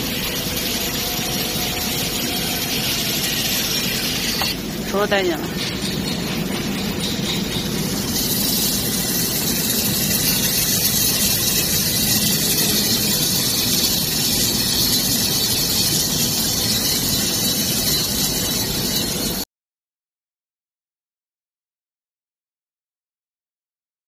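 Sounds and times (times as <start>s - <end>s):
coffee beans hissing and rattling: 0.0s - 19.4s
roaster fans and motors running: 0.0s - 19.4s.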